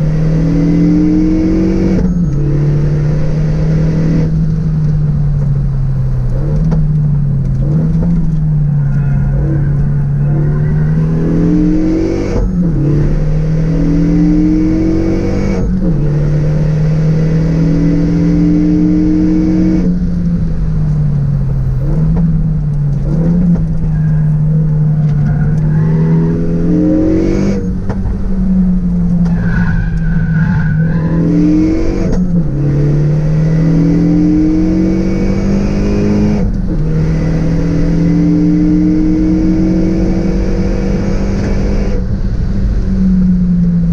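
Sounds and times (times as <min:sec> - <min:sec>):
car engine revving through gears: 0:00.0 - 0:43.9.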